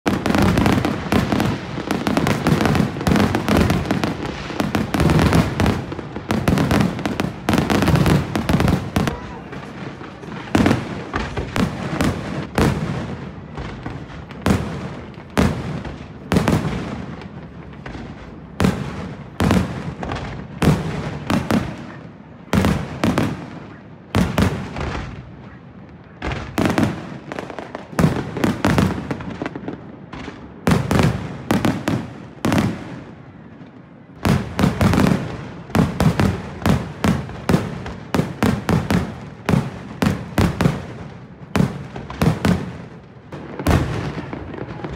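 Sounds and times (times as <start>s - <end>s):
firework crackle: 0.0s - 44.9s.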